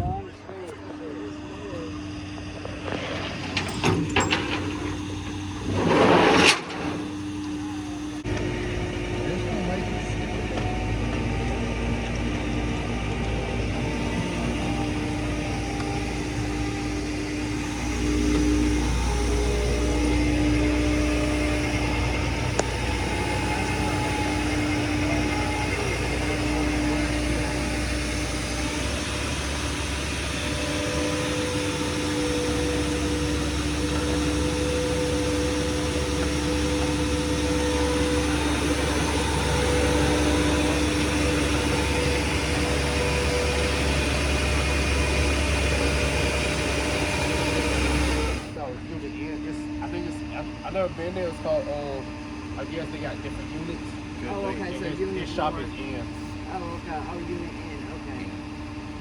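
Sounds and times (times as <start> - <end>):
vehicle engine running: 0.1 - 48.6.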